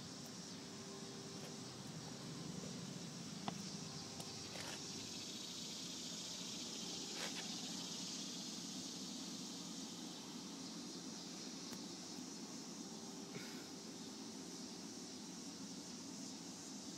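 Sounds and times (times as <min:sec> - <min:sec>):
insects chirring: 0:00.0 - 0:16.9.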